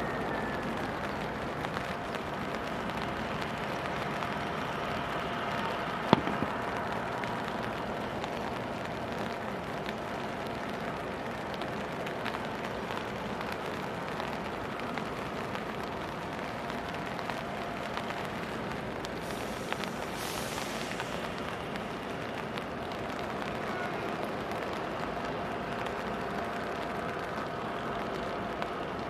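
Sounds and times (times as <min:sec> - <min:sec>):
faint steady whine: 0:00.0 - 0:29.0
heavy rain falling: 0:00.0 - 0:29.0.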